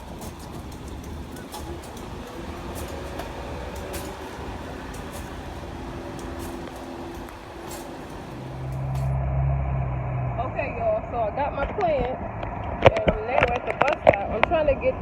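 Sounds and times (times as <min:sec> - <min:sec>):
faint engine hum: 0:00.0 - 0:15.0
street traffic rumble: 0:00.0 - 0:15.0.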